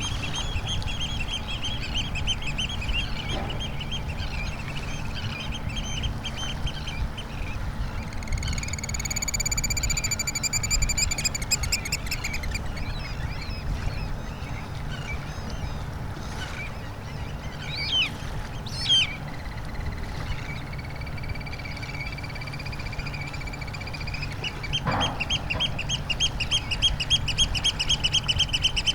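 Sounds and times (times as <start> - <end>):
birds calling: 0.0 - 19.5, 21.4 - 28.9.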